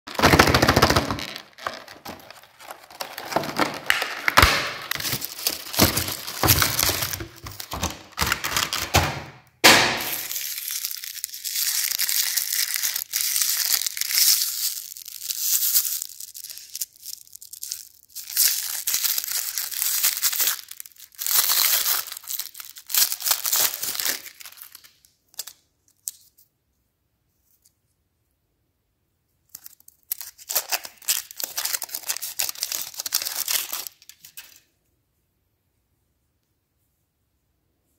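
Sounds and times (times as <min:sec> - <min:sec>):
plastic packaging crinkling: 0:00.1 - 0:09.0, 0:10.0 - 0:26.4, 0:29.5 - 0:34.7.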